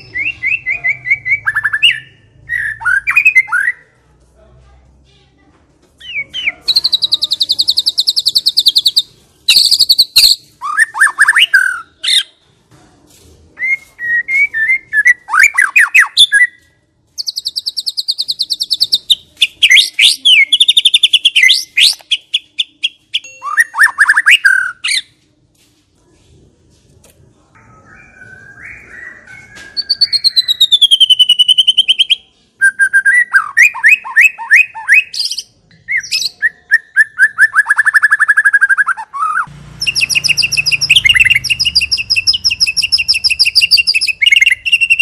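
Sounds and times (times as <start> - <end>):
songbird singing buzzy trills and whistles: 0.0 - 3.8, 6.0 - 12.3, 13.6 - 25.2, 27.6 - 45.0.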